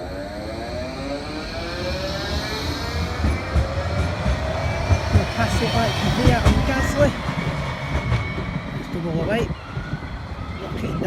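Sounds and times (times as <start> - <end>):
low rumble: 0.0 - 11.0
tram traction motors whining: 0.0 - 11.0.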